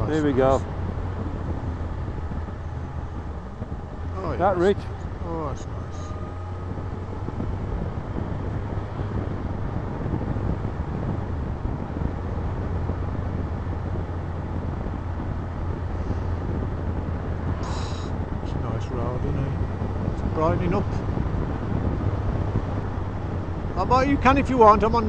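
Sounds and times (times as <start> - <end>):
motorcycle engine hum: 0.0 - 25.0
road noise: 0.0 - 25.0
wind noise: 0.0 - 25.0.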